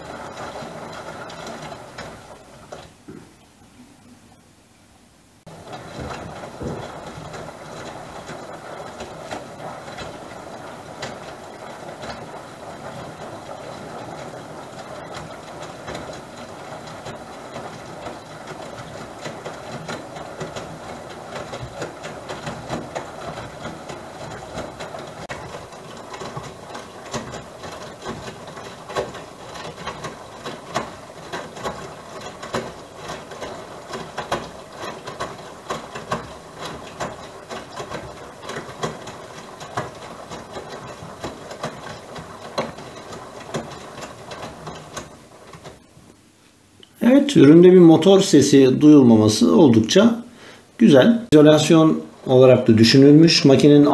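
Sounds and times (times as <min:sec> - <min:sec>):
sharp clicks and knocks: 0:00.0 - 0:03.4, 0:05.4 - 0:47.0
washing machine drum tumbling laundry: 0:00.0 - 0:04.1, 0:05.4 - 0:53.9.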